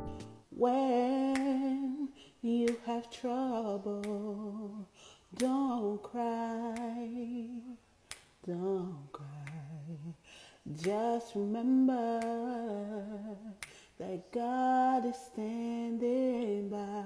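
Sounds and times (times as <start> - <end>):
woman singing a cappella: 0.4 - 17.0.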